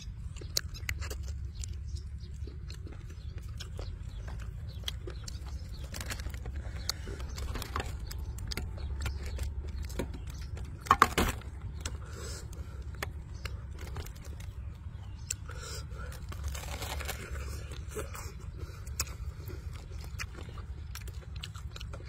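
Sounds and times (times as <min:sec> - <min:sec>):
food clicks and rustles: 0:00.0 - 0:22.0.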